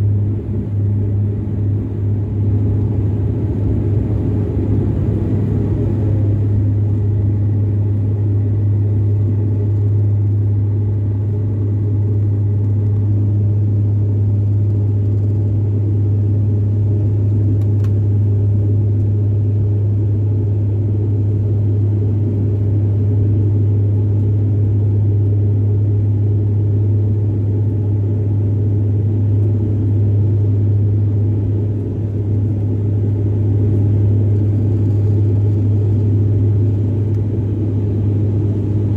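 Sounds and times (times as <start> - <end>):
deep propeller drone: 0.0 - 38.9
engine and airflow rumble: 0.0 - 38.9.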